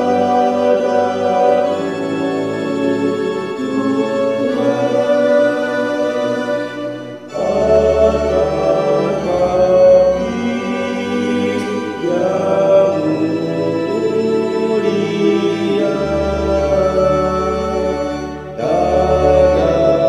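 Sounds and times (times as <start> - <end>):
choir singing a hymn: 0.0 - 20.0
organ chords: 0.0 - 20.0.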